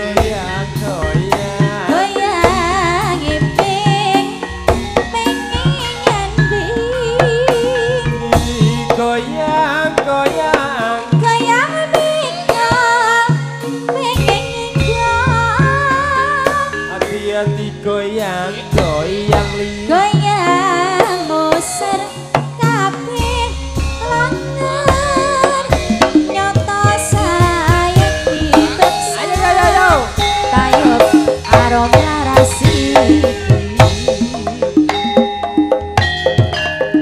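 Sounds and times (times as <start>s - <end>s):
person singing wavering melody: 0.0s - 35.7s
gongs and metallophones: 0.0s - 37.0s
hand drums beating: 0.0s - 37.0s.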